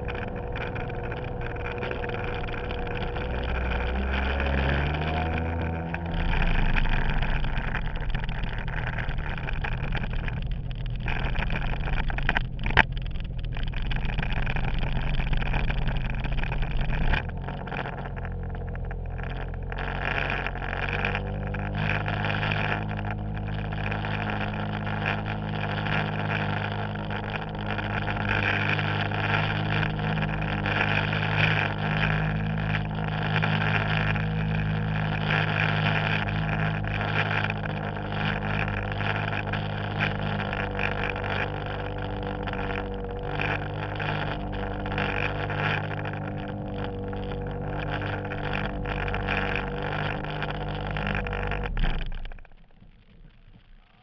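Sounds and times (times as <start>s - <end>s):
jet ski engine running: 0.0s - 52.6s.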